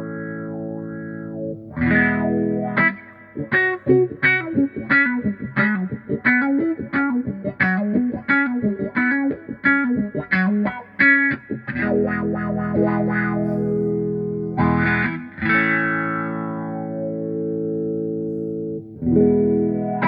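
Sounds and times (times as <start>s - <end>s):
electric guitar riff with wah: 0.0s - 20.0s.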